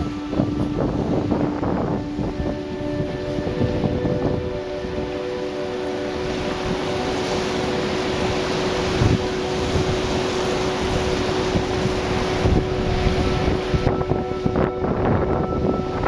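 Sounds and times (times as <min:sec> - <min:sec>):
faint steady hum: 0:00.0 - 0:16.0
wind buffeting microphone: 0:00.0 - 0:16.0.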